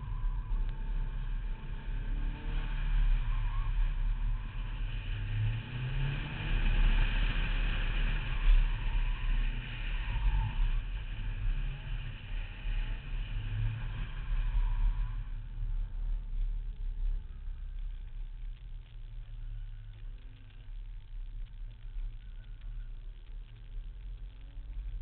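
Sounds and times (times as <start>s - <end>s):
car engine revving: 0.0s - 20.6s
road and wind noise: 0.0s - 25.0s.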